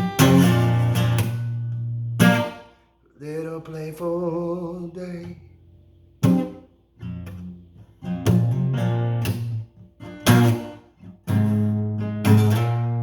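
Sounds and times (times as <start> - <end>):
guitar chords strummed: 0.0 - 5.4, 6.2 - 13.0.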